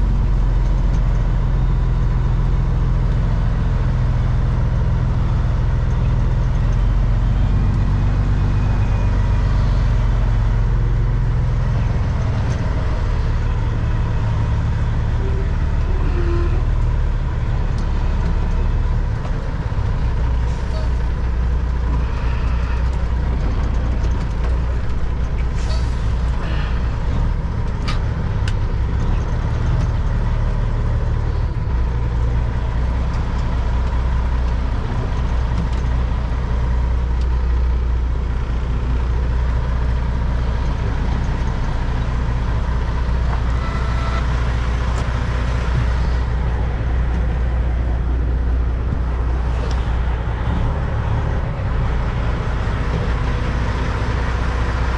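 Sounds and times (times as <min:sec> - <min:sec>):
truck diesel engine running: 0:00.0 - 0:54.9.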